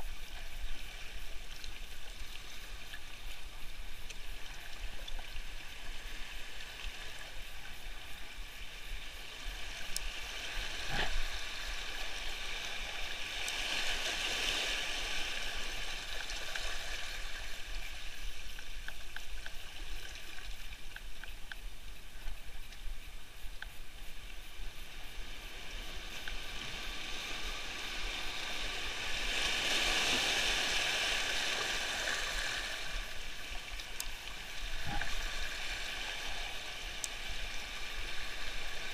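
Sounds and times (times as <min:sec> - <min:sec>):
waves washing on shore: 0:00.0 - 0:18.8, 0:24.5 - 0:38.9.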